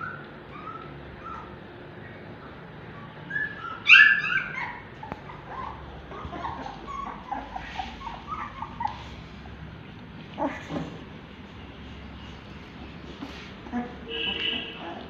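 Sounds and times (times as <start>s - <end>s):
puppies squeaking and whimpering: 0.0s - 11.2s, 11.8s - 15.0s.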